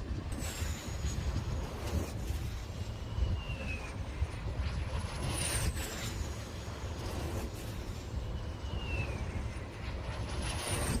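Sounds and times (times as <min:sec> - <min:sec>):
high whine gliding down: 0:00.0 - 0:11.0
steady low rumble: 0:00.0 - 0:11.0
wind turbine blade whooshing: 0:00.0 - 0:11.0.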